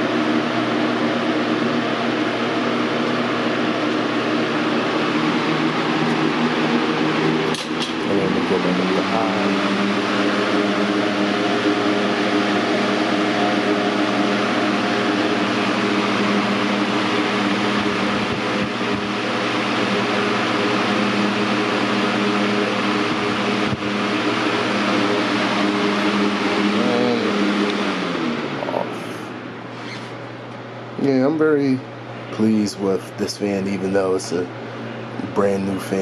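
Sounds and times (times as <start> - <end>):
box fan whooshing with motor hum: 0.0 - 36.0.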